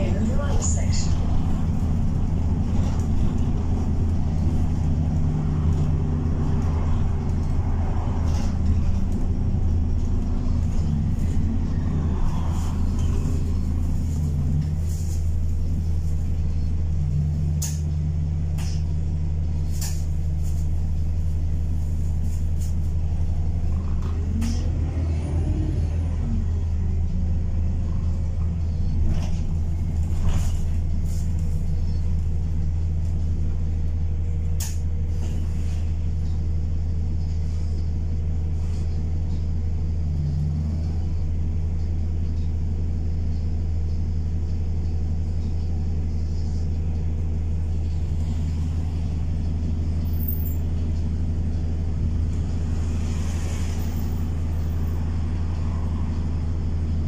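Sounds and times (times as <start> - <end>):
bus engine and road hum: 0.0 - 57.0.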